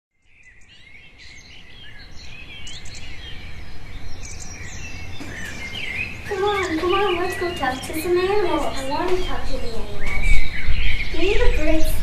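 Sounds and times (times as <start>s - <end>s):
small birds chirping and whistling: 0.2s - 12.0s
steady low hum: 0.5s - 12.0s.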